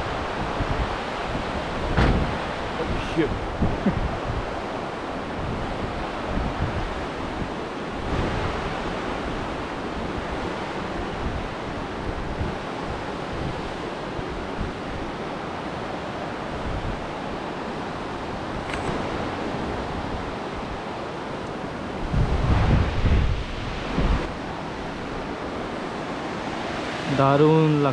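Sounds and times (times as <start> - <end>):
low wind thumps: 0.0 - 15.3, 16.5 - 26.4
wind buffeting microphone: 0.0 - 27.1.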